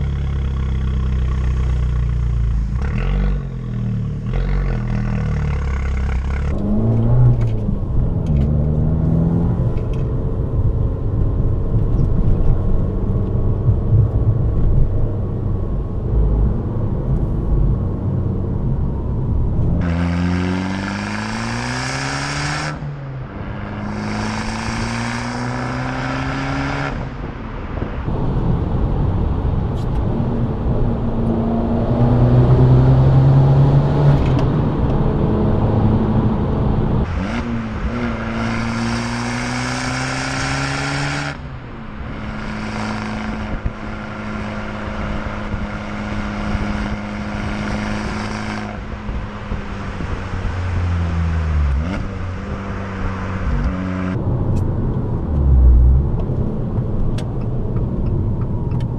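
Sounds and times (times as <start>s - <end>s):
car engine and exhaust revving: 0.0s - 58.9s.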